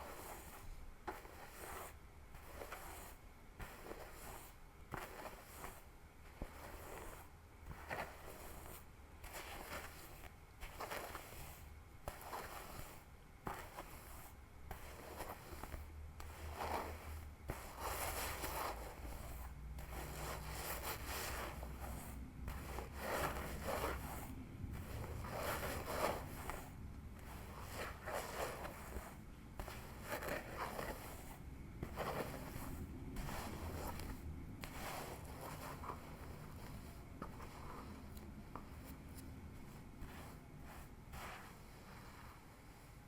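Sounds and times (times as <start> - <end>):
fingernails scratching scalp and hair: 0.0 - 41.6.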